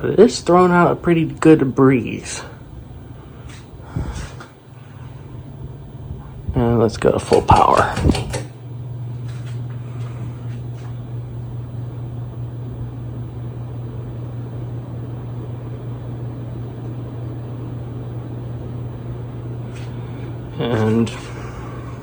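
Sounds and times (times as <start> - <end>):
ceiling fan motor hum: 0.0 - 22.0.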